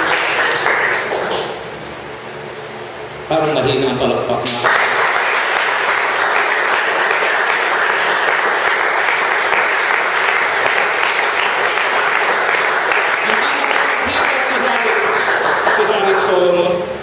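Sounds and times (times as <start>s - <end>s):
congregation applauding: 0.0s - 1.6s, 4.5s - 16.8s.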